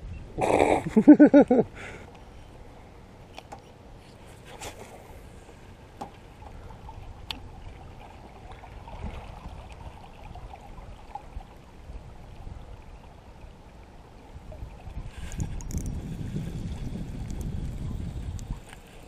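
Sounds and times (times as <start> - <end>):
water lapping against a hull: 0.3 - 19.0.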